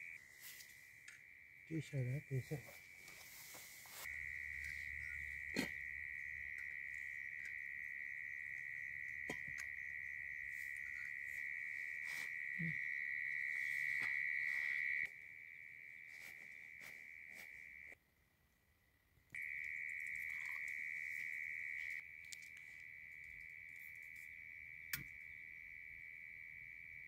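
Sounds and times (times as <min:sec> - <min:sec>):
cricket trilling: 0:00.0 - 0:18.0, 0:19.4 - 0:27.0.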